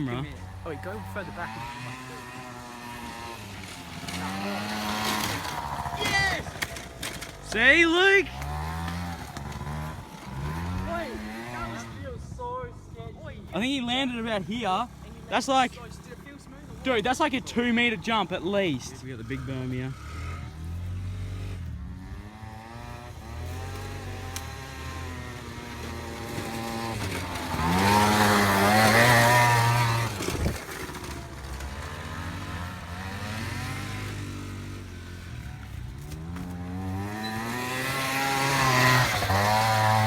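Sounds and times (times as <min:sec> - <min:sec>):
moped engines revving: 0:00.0 - 0:40.0.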